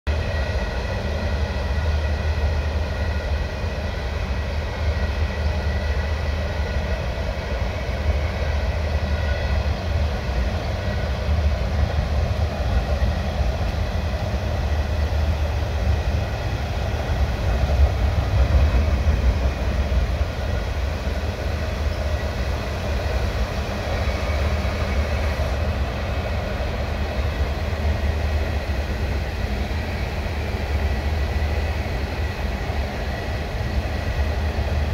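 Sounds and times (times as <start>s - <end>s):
freight train rumbling on bridge: 0.1s - 34.9s.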